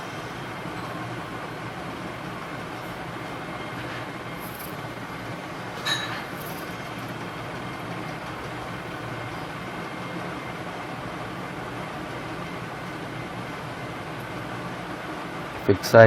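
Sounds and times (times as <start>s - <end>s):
hot air station blowing: 0.0s - 16.0s.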